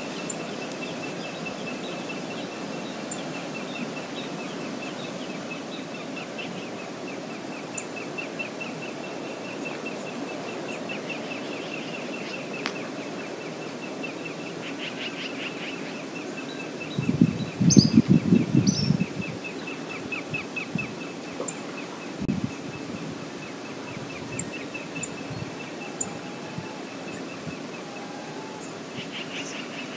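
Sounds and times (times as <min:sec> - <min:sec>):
river rushing: 0:00.0 - 0:18.0, 0:19.0 - 0:29.9.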